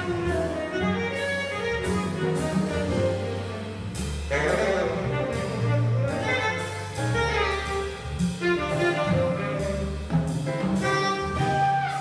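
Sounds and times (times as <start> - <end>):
drum kit with cymbals: 0.0 - 12.0
piano: 0.0 - 12.0
saxophone melody: 0.0 - 12.0
upright double bass: 0.0 - 12.0.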